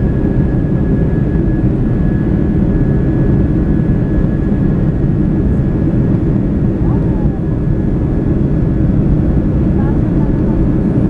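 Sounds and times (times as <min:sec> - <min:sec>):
jet engine roar in cabin: 0:00.0 - 0:11.0.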